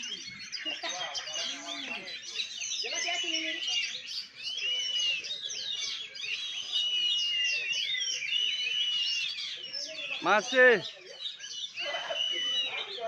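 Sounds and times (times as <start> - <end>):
bird singing varied song: 0.0 - 13.0.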